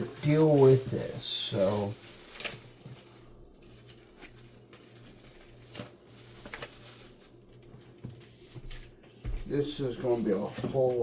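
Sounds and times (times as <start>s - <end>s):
plastic wrap rustling: 0.0s - 11.0s.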